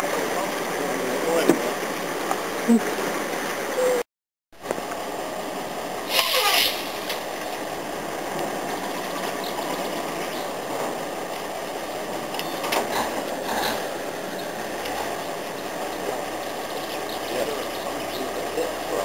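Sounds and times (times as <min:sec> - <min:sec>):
crane engine and winch running: 0:00.0 - 0:03.8, 0:04.6 - 0:19.0.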